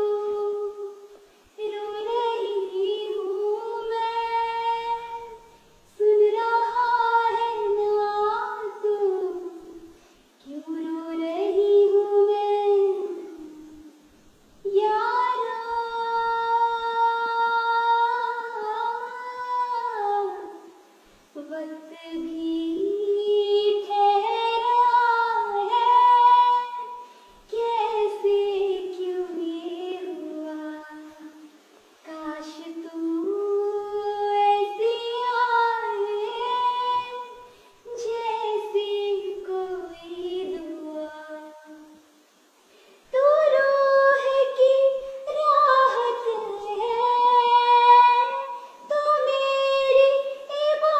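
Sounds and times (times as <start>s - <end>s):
girl singing unaccompanied: 0.0s - 50.9s.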